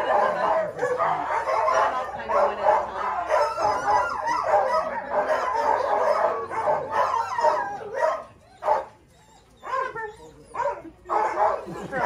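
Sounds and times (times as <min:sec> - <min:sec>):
dogs barking and howling: 0:00.0 - 0:12.0.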